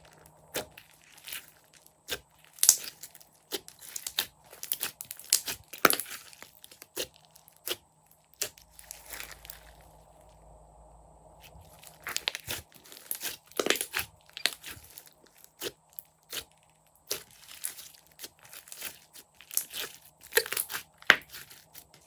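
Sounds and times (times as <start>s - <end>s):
slime crackling and popping: 0.0s - 10.0s, 11.4s - 22.0s.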